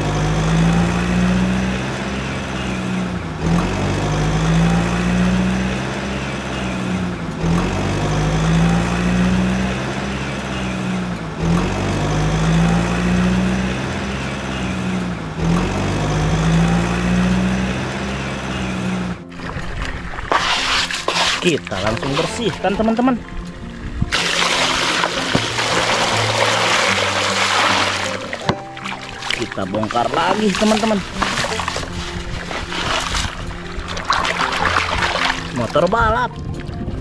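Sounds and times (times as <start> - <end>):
truck engine drone: 0.0 - 37.0.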